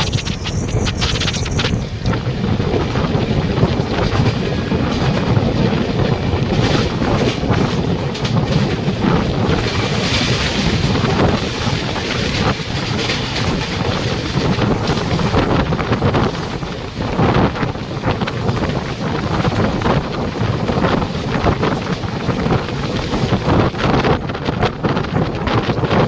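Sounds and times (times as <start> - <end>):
train rumbling and clattering: 0.0 - 26.0
wind buffeting microphone: 0.0 - 26.0.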